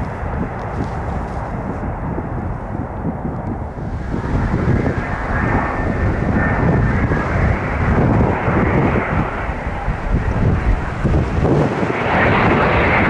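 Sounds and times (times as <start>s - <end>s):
jet engine rumble: 0.0s - 13.0s
wind buffeting microphone: 0.0s - 13.0s.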